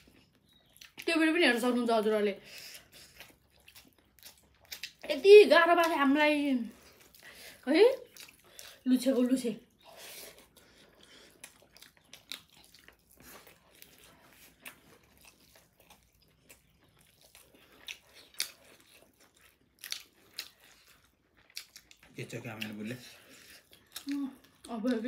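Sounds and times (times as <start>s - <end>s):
people chewing food: 0.0s - 25.0s.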